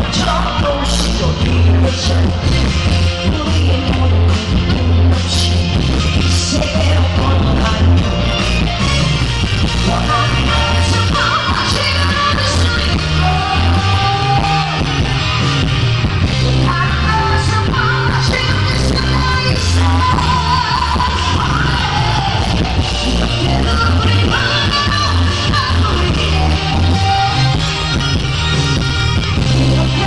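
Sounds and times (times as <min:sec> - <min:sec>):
woman singing pop song: 0:00.0 - 0:08.6, 0:09.6 - 0:15.2, 0:16.3 - 0:28.2, 0:29.3 - 0:30.0
band backing with steady beat: 0:00.0 - 0:30.0.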